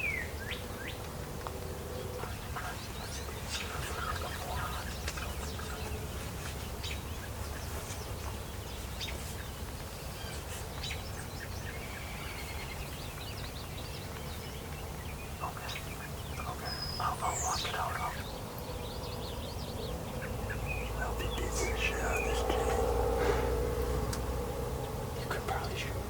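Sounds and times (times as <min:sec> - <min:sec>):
low background rumble: 0:00.0 - 0:26.0
songbirds chirping: 0:00.0 - 0:26.0.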